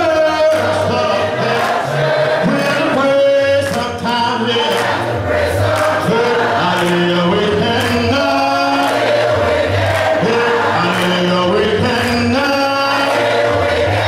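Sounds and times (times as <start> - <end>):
man leading song on microphone: 0.0 - 9.4, 10.1 - 13.9
congregation singing in harmony: 0.0 - 14.0.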